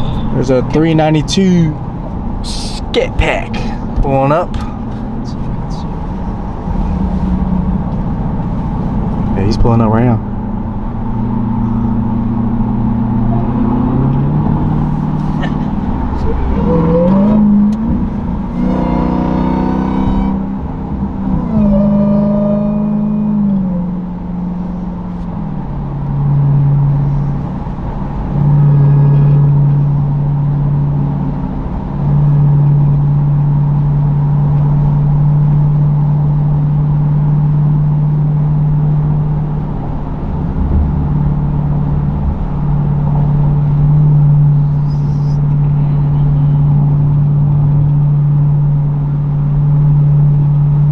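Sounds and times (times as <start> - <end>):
loud car exhaust revving: 0.0 - 50.9.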